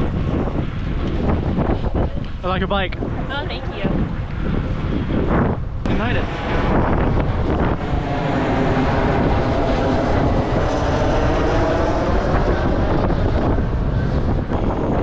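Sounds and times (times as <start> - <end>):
jet aircraft passing overhead: 0.0 - 15.0
wind rushing on microphone: 0.0 - 15.0.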